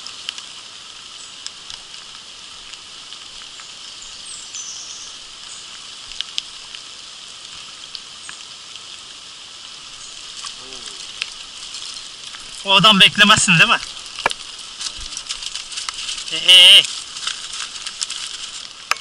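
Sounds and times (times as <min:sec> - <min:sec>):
steady rain hiss: 0:00.0 - 0:19.0
stream running over stones: 0:00.0 - 0:19.0.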